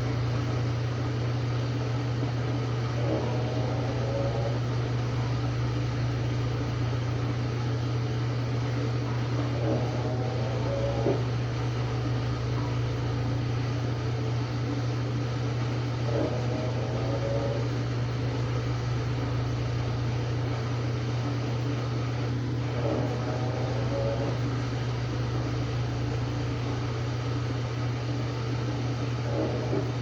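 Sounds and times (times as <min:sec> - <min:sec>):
washing machine motor hum: 0:00.0 - 0:30.0
washing machine whine: 0:00.0 - 0:30.0.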